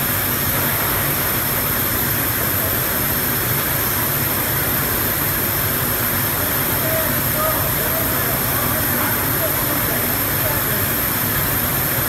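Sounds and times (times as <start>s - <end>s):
factory machinery drone and hiss: 0.0s - 12.0s.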